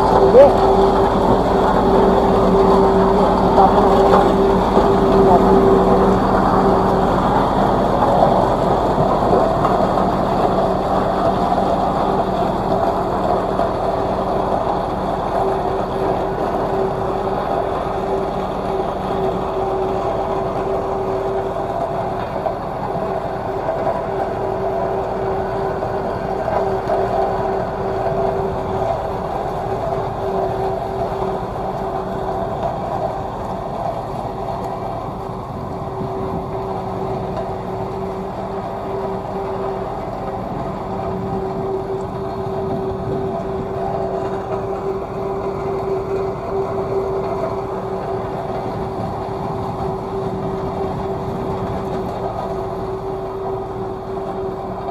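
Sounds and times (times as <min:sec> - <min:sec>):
road roller diesel engine humming: 0:00.0 - 0:54.9.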